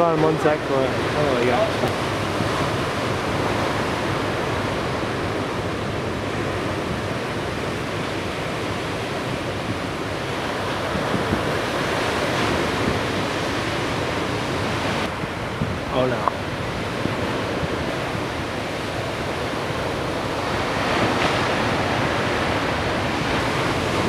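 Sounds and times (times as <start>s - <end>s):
ocean waves breaking: 0.0s - 24.0s.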